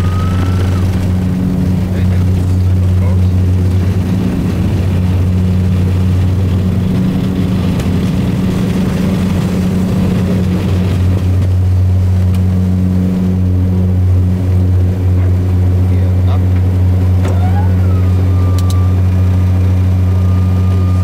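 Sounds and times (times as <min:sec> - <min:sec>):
propeller drone: 0:00.0 - 0:21.0.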